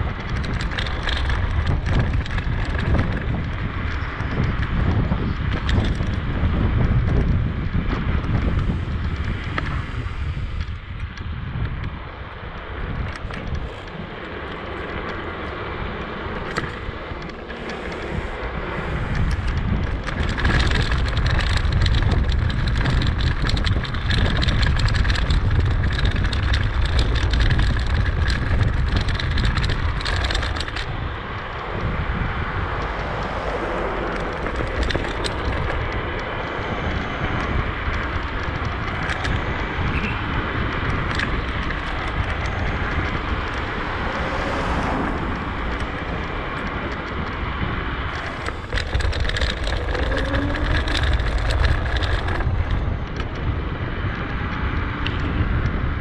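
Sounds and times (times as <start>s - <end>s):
low rumble: 0.0s - 56.0s
wind buffeting microphone: 0.0s - 56.0s
small clicks: 0.2s - 4.7s, 10.6s - 31.7s, 32.5s - 53.5s.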